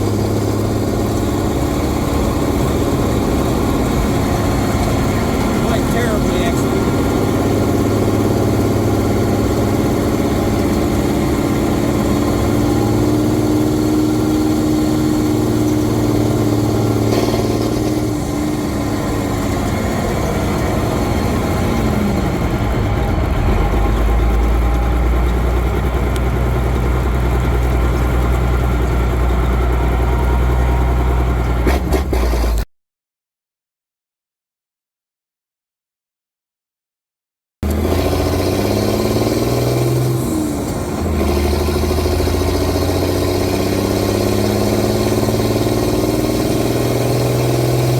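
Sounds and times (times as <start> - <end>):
truck diesel engine running: 0.0 - 32.6, 37.6 - 47.9.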